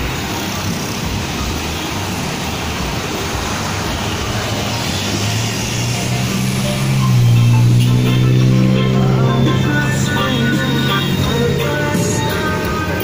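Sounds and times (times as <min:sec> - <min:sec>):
passing cars and motorcycles: 0:00.0 - 0:13.0.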